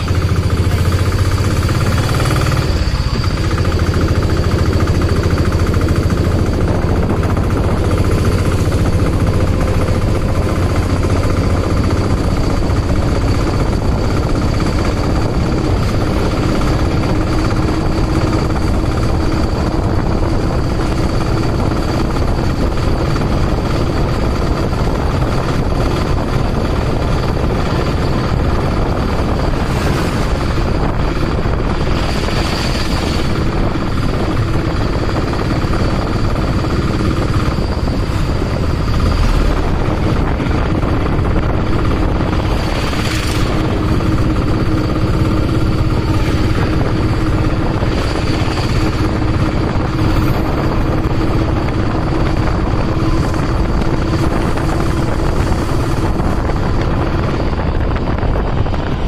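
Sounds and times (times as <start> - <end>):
auto-rickshaw engine rumbling: 0.0 - 59.0
road and wind noise: 0.0 - 59.0.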